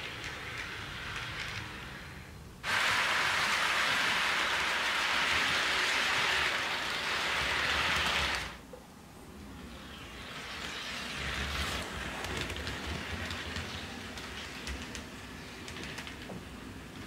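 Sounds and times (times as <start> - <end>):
model train rumbling along track: 0.0 - 8.6, 9.9 - 17.0.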